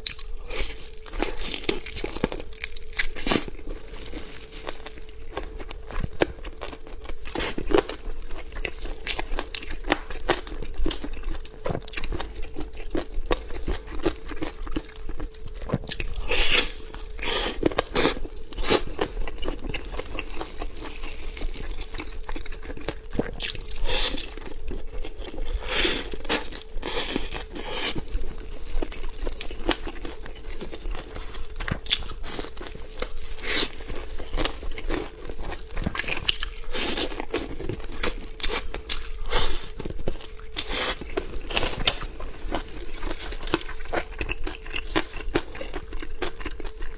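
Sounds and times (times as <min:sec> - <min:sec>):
crunchy chewing: 0:00.0 - 0:46.9
faint steady hum: 0:00.0 - 0:46.9.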